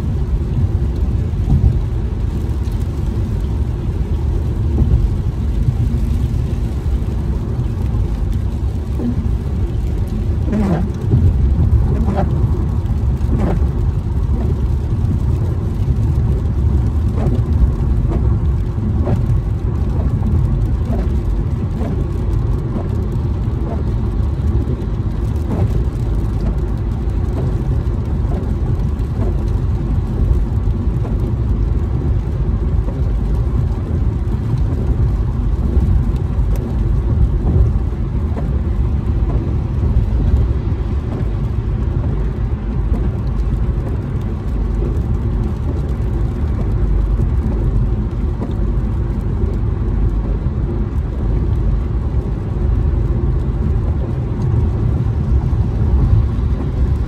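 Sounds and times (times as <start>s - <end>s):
car engine running: 0.0s - 57.0s
tyres on wet pavement: 0.0s - 57.0s.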